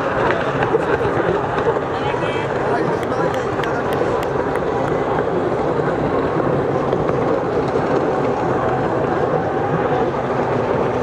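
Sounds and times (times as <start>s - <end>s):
jet ski engine drone: 0.0s - 11.0s.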